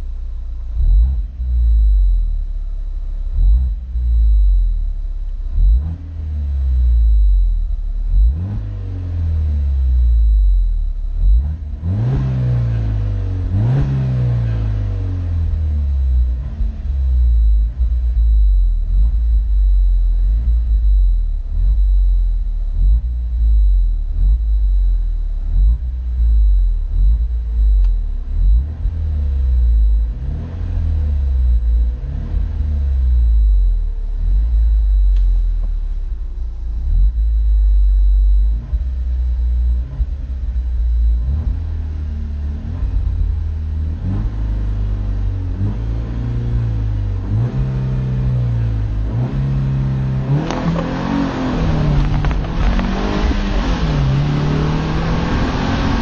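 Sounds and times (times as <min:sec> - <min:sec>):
car engine running: 0:00.0 - 0:56.0
heavy low rumble: 0:00.0 - 0:56.0.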